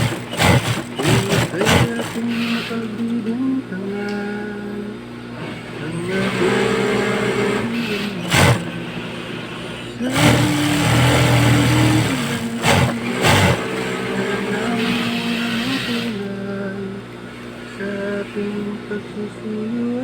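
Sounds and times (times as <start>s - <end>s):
industrial sewing machine whine: 0.0s - 20.0s.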